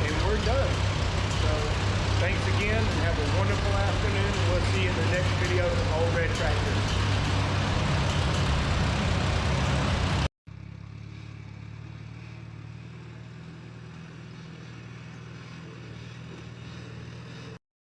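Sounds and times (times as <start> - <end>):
quiet engine hum: 0.0 - 17.6
tractor engine running: 0.0 - 17.6.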